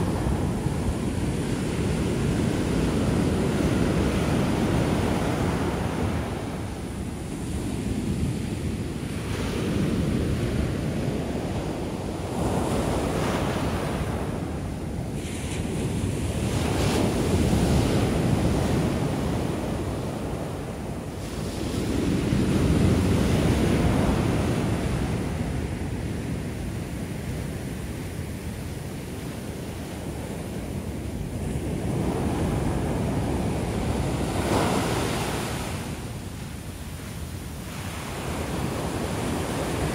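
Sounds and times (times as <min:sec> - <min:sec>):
waves crashing on beach: 0:00.0 - 0:39.9.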